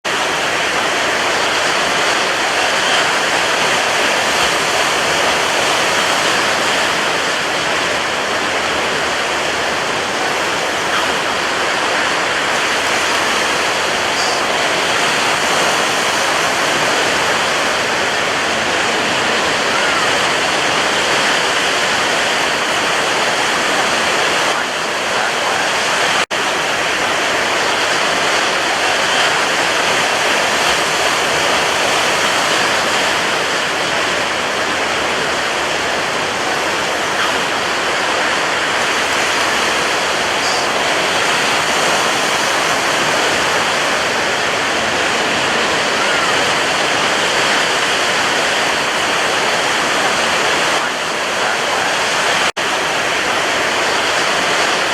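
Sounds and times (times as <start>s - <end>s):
sea waves breaking: 0.0s - 54.9s.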